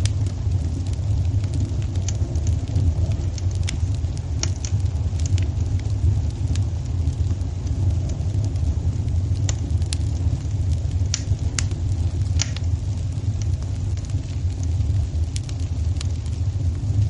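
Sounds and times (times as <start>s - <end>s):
fire burning in fireplace: 0.0s - 17.0s.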